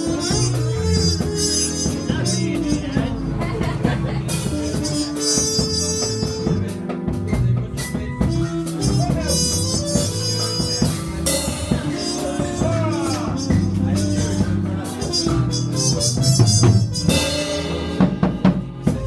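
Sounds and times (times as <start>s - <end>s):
drum kit beat: 0.0s - 19.0s
held instrumental notes: 0.0s - 19.0s.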